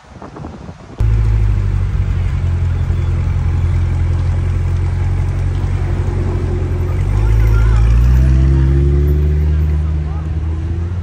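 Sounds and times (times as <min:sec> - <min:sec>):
car engine rumbling at low revs: 0:01.0 - 0:11.0.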